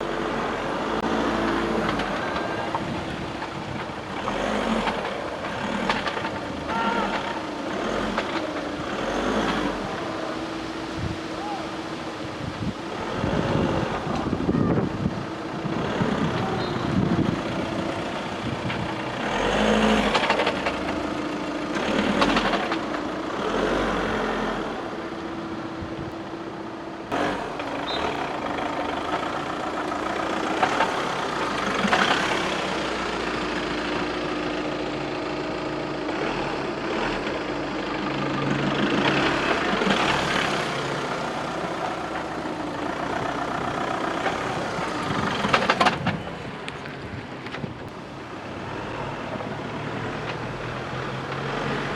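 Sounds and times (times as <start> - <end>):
car engine running: 0.0 - 11.3, 12.2 - 51.9.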